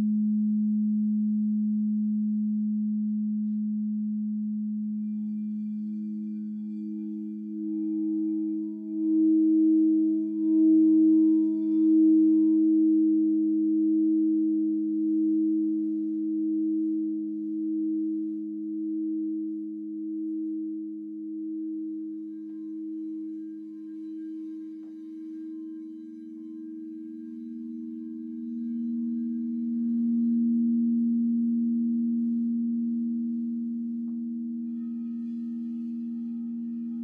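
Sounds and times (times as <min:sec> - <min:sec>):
singing bowls ringing: 0:03.4 - 0:37.0.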